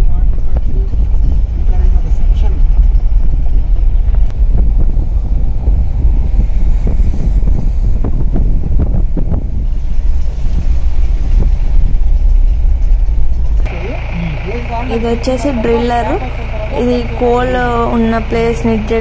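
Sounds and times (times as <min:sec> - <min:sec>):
vehicle rumbling on dirt track: 0:00.0 - 0:19.0
wind buffeting microphone: 0:00.0 - 0:19.0.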